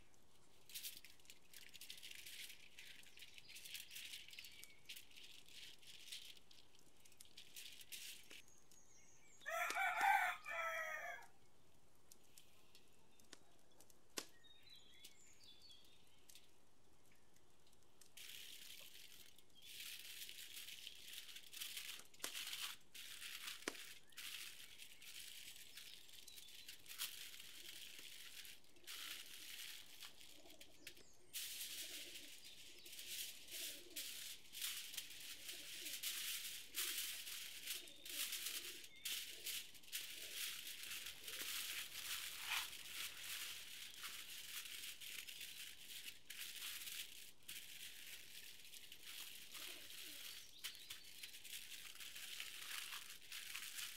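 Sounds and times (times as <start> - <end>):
aluminium foil crinkling: 0.0 - 11.3, 12.0 - 53.9.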